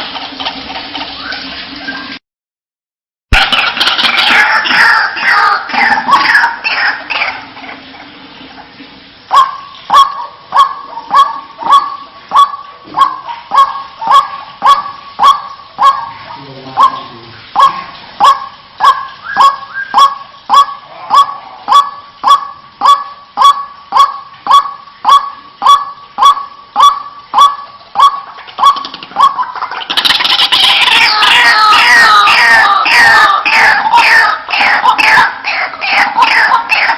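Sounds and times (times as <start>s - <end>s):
waterhen croaking call: 0.0s - 2.2s, 3.3s - 36.9s.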